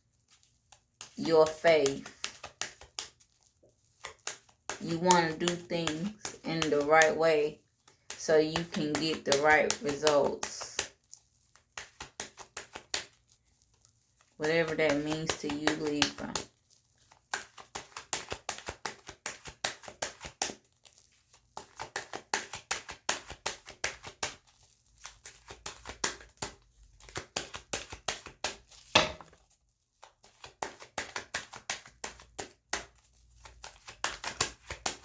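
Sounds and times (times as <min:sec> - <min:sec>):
cards being shuffled: 0:00.2 - 0:35.0.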